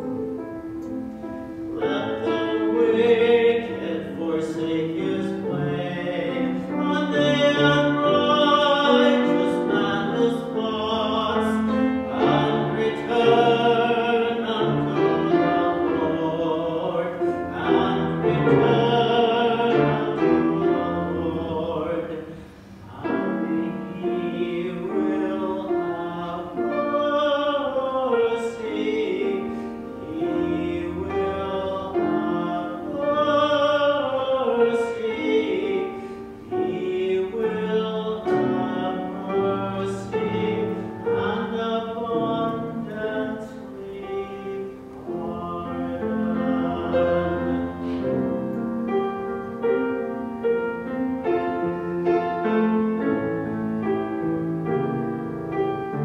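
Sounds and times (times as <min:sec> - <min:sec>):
piano accompaniment: 0:00.0 - 0:56.0
person singing: 0:01.7 - 0:48.6.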